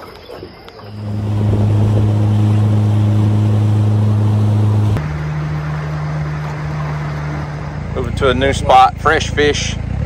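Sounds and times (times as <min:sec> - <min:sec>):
outboard motor running: 0:00.8 - 0:10.0.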